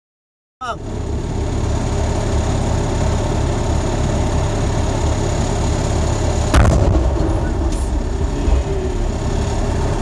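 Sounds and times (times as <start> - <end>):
military vehicle engine throbbing: 0.6 - 10.0.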